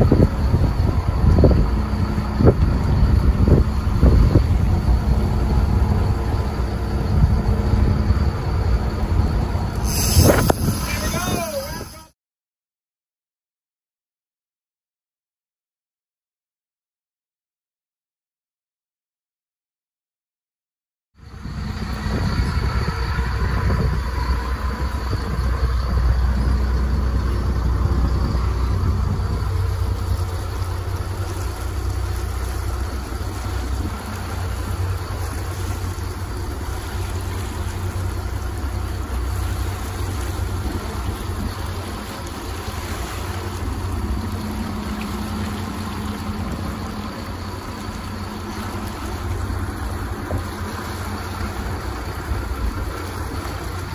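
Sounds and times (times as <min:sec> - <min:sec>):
boat engine rumbling: 0:00.0 - 0:12.2, 0:21.2 - 0:53.9
water noise: 0:00.0 - 0:12.2, 0:21.2 - 0:53.9
wind: 0:00.0 - 0:12.2, 0:21.2 - 0:53.9.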